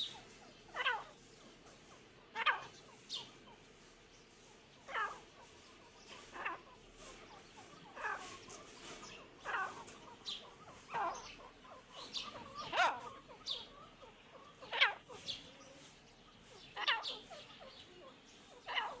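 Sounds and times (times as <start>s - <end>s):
partridges calling: 0.0s - 19.0s.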